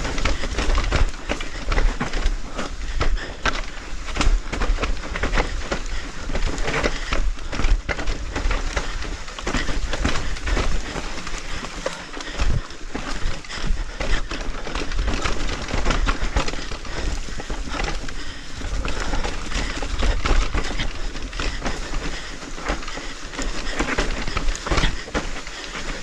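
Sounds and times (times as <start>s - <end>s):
bike clattering and rattling: 0.0s - 26.0s
tyres crunching over dirt: 0.0s - 26.0s
wind rumbling on microphone: 0.0s - 26.0s.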